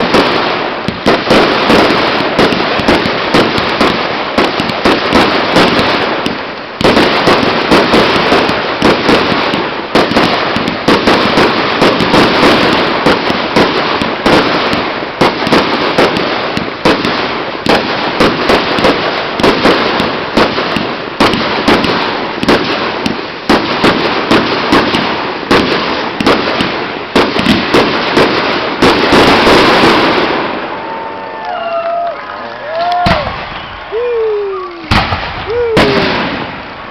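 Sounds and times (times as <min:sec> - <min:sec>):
fireworks bangs and crackling: 0:00.0 - 0:36.9.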